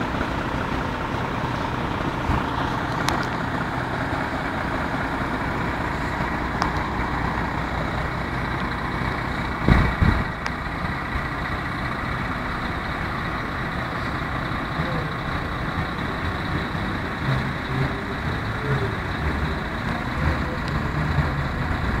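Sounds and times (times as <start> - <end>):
lorries idling: 0.0 - 22.0.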